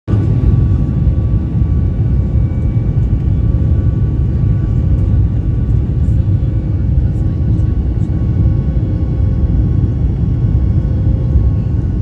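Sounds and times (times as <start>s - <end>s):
airplane cabin engine rumble: 0.1s - 12.0s.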